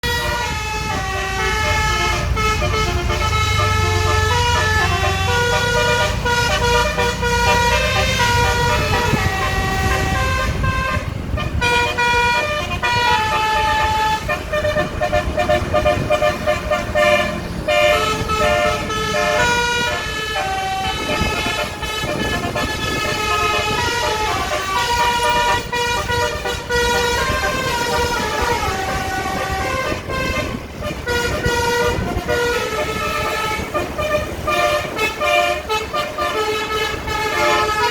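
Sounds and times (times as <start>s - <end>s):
low engine rumble: 0.0s - 37.9s
musical bus horn melody: 0.0s - 37.9s.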